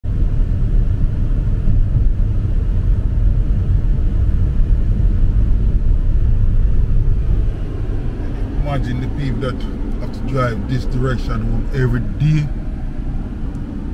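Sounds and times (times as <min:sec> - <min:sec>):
road and wind noise in car: 0:00.0 - 0:13.9.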